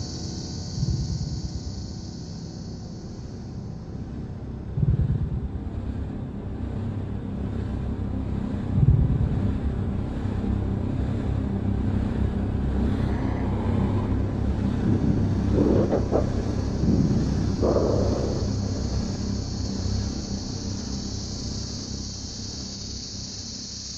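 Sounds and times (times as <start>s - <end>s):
deep rumbling drone: 0.0s - 23.9s.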